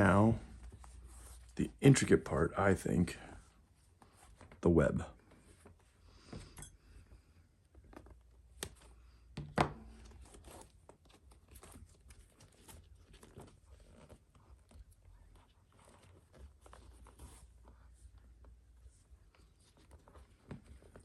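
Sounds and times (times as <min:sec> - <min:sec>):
baseball glove rustling and scraping: 0:00.0 - 0:02.4, 0:03.1 - 0:06.6, 0:07.7 - 0:21.0.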